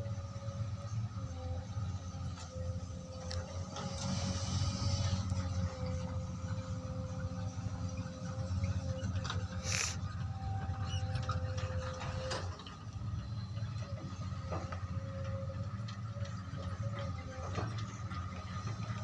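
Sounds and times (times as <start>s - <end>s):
diesel engines rumbling: 0.0s - 19.0s.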